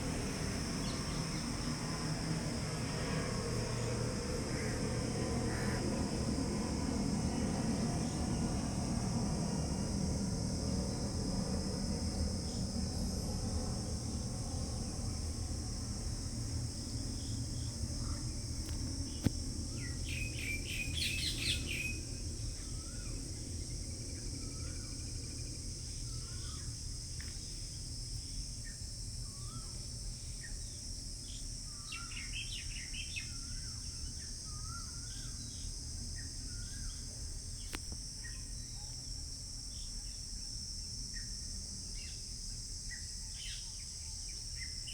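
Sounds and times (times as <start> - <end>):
crickets droning: 0.0 - 44.9.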